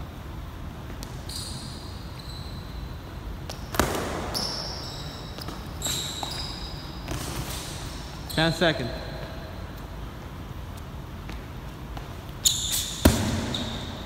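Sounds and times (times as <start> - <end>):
sneakers squeaking on gym floor: 0.8 - 14.0.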